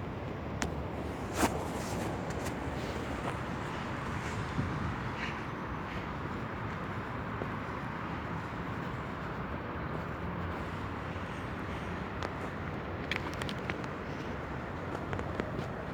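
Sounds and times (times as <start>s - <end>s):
outdoor background noise: 0.0s - 15.9s.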